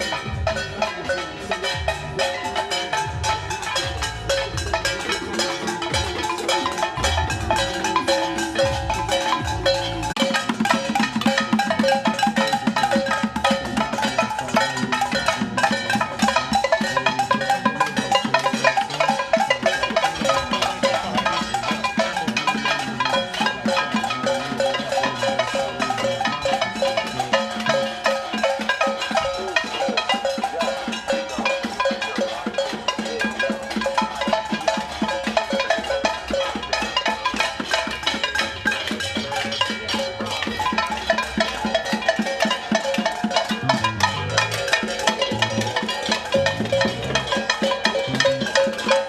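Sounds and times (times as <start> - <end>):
crowd banging pots and pans: 0.0 - 49.0.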